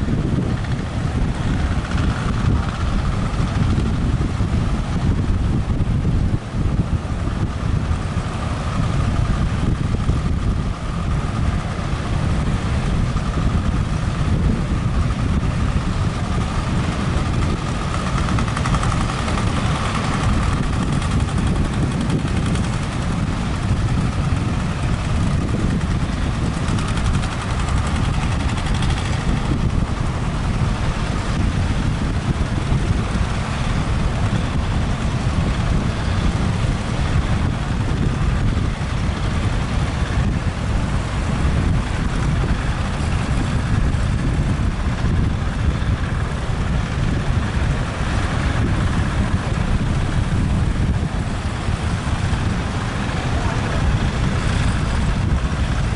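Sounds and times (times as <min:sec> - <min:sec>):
boat engine running: 0:00.0 - 0:55.9
heavy surf breaking: 0:00.0 - 0:55.9
wind rumble on microphone: 0:00.0 - 0:55.9.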